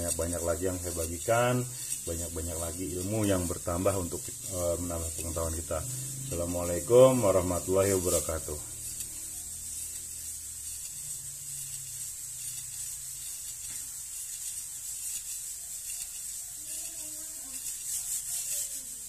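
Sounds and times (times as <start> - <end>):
lapping rod rubbing inside gun barrel: 0.0 - 19.0.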